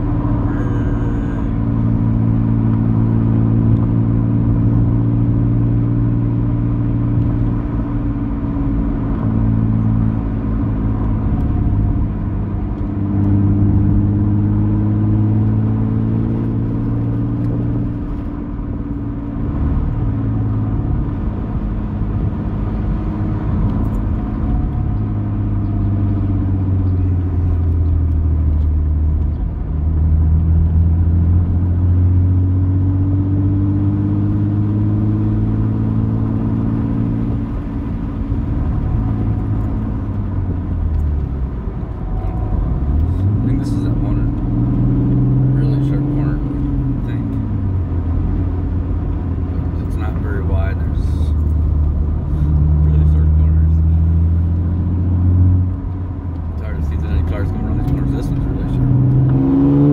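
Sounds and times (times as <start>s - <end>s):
car engine and tyre drone: 0.0s - 59.9s.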